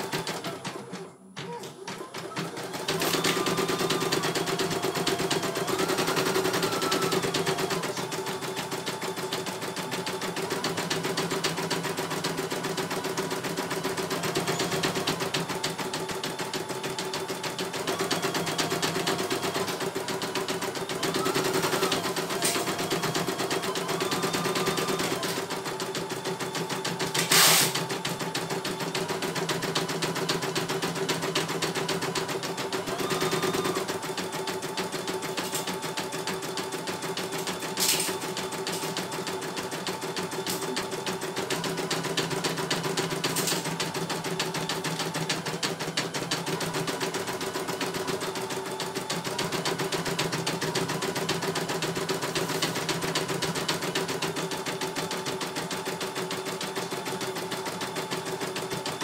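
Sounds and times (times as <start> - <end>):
machine motor hum: 0.0 - 47.6.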